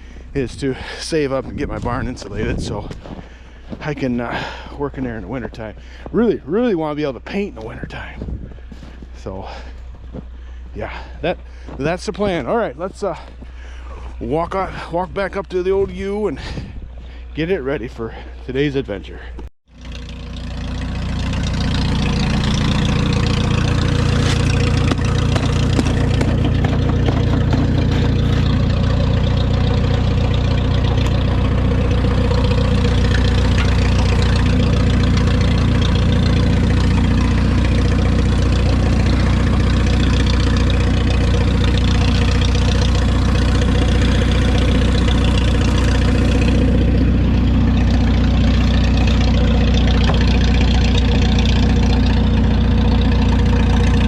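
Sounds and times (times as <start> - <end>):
tractor engine idling: 0.0 - 54.0.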